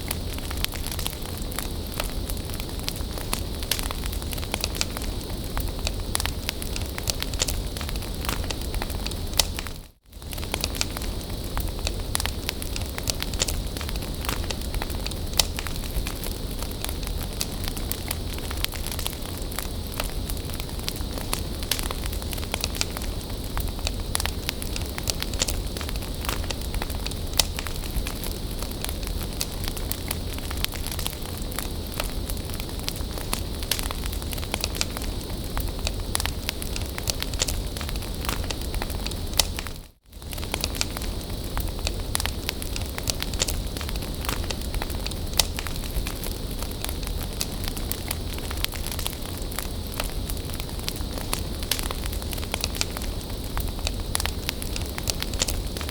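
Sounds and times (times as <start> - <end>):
bonfire crackling and popping: 0.0 - 55.9.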